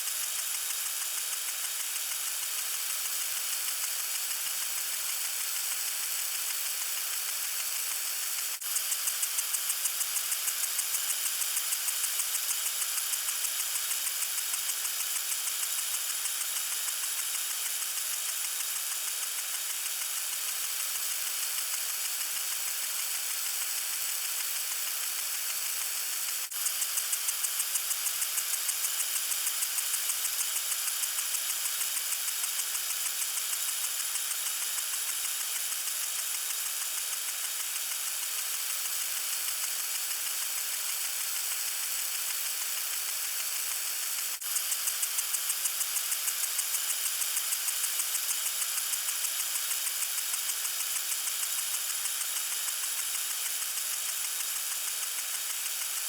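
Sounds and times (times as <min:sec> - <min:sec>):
lawn sprinkler spraying water: 0:00.0 - 0:56.0
pulsing sprinkler spray: 0:00.0 - 0:56.0.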